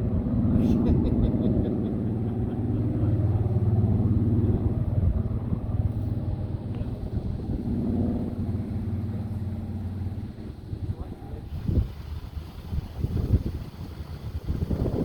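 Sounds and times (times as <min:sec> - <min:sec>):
aircraft engine droning: 0:00.0 - 0:15.0.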